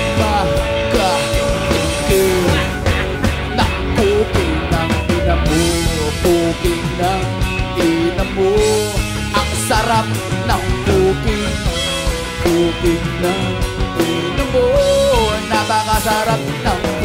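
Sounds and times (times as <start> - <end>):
bass guitar: 0.0 - 17.0
drums: 0.0 - 17.0
electric guitar lead melody: 0.0 - 17.0.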